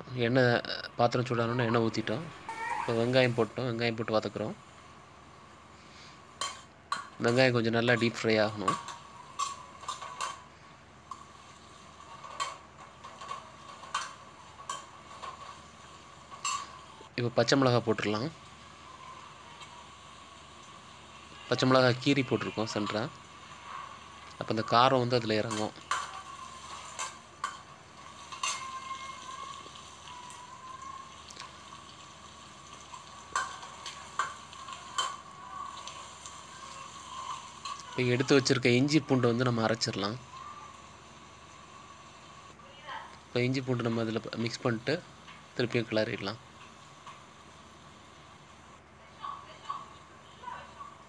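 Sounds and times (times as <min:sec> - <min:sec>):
onions frying in oil: 0:01.0 - 0:51.0.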